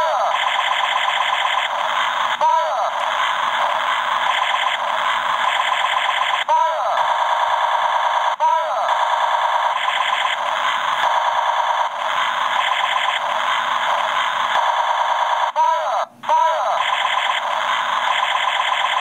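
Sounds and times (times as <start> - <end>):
toy gun buzzy pulsing rattle: 0.0 - 15.6, 16.2 - 19.0.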